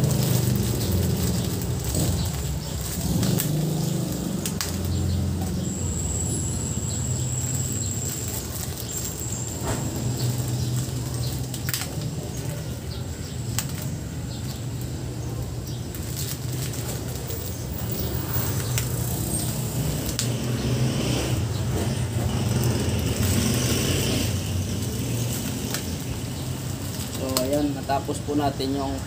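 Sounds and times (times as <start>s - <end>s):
plastic bags rustling: 0.0s - 29.0s.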